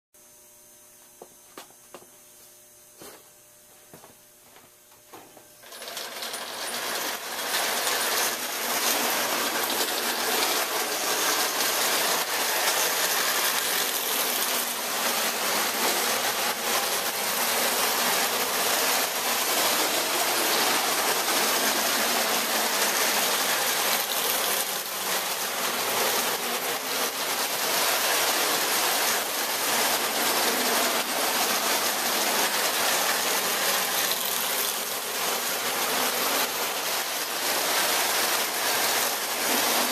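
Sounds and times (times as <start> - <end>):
toy train wheels clattering on rails: 5.6 - 39.9.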